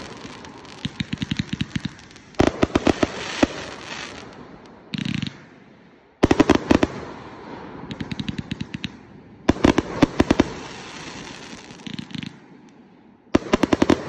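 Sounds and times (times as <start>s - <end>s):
firework bangs and pops: 0.0s - 5.5s, 6.2s - 12.4s, 13.4s - 14.0s.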